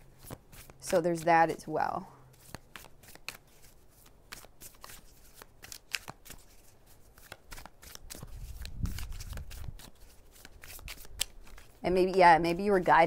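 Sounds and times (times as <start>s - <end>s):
cards being shuffled: 0.1s - 1.6s, 2.3s - 13.0s.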